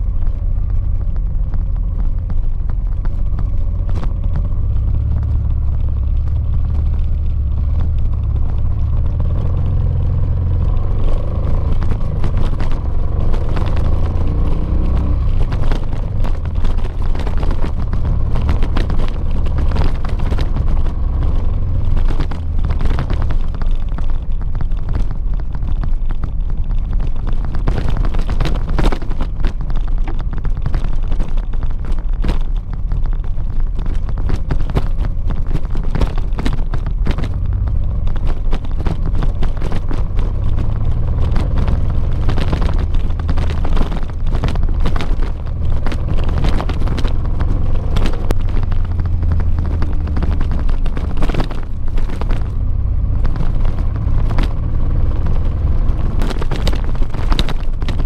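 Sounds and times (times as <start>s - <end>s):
knocks and rattles from gravel: 0.0s - 58.0s
motorcycle engine running: 0.0s - 58.0s.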